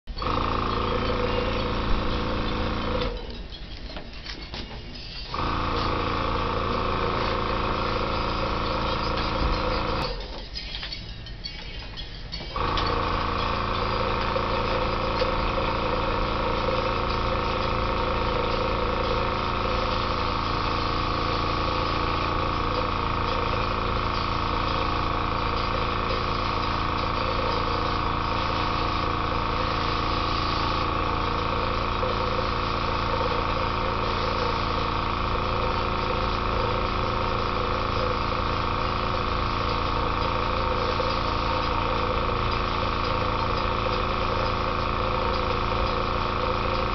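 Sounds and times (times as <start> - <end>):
airbrush compressor humming: 0.1 - 3.3, 5.3 - 10.2, 12.5 - 46.9.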